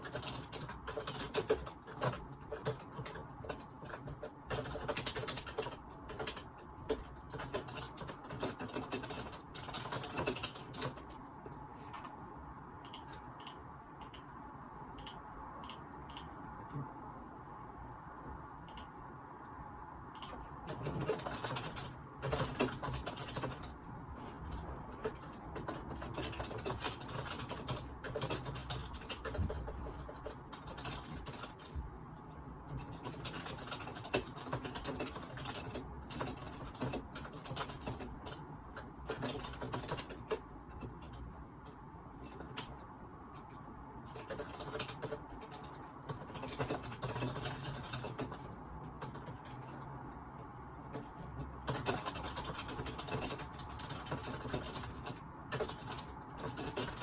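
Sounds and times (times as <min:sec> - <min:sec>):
computer keyboard typing: 0:00.0 - 0:12.2, 0:12.8 - 0:14.3, 0:14.9 - 0:16.4, 0:20.1 - 0:57.0.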